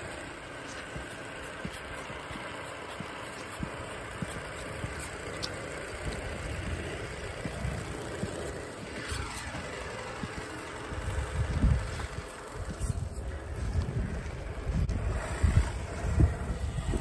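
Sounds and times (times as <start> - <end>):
rc car motor whir: 0.0 - 17.0
tyre noise on pavement: 0.0 - 17.0
wind buffeting microphone: 0.0 - 17.0.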